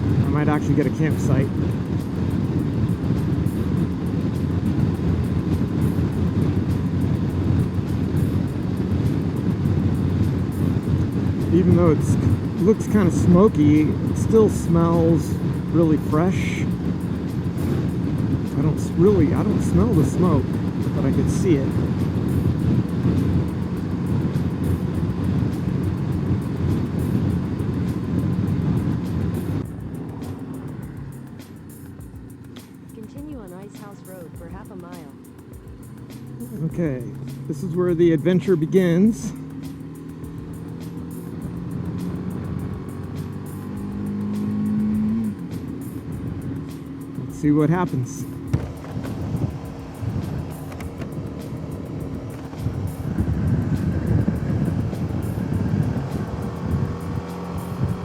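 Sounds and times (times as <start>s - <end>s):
motorcycle engine rumble: 0.0s - 58.0s
wind and road noise: 0.0s - 58.0s.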